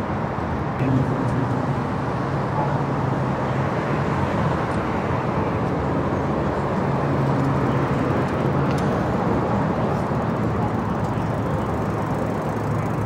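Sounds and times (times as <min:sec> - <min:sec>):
road traffic noise: 0:00.0 - 0:13.0
low engine hum: 0:00.3 - 0:13.0.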